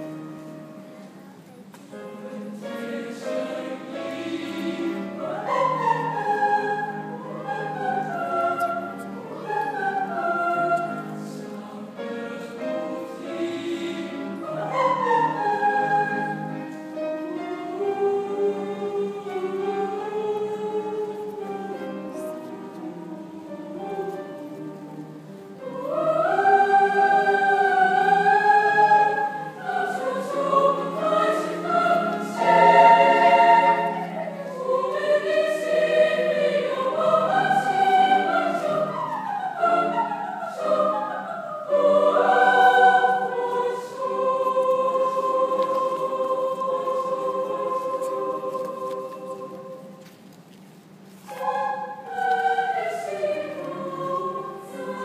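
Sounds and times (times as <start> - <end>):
choir singing: 0.0 - 0.8, 1.9 - 50.2, 51.2 - 55.0
grand piano accompaniment: 0.0 - 55.0.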